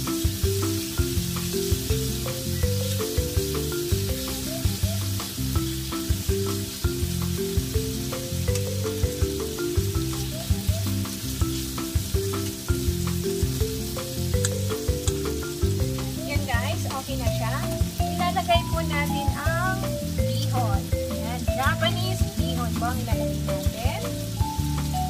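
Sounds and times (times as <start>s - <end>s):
background music with a beat: 0.0s - 25.0s
meat sizzling in a frying pan: 0.0s - 25.0s.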